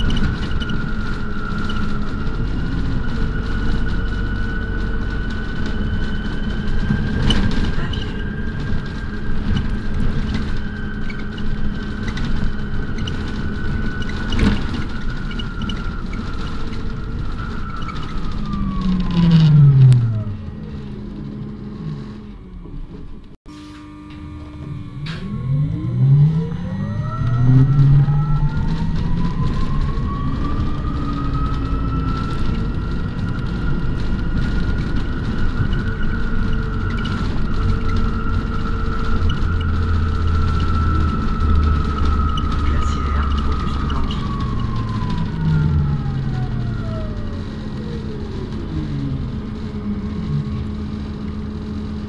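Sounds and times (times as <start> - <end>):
bus drivetrain rumble: 0.0 - 52.0
high whine: 0.0 - 52.0
road noise: 0.0 - 52.0.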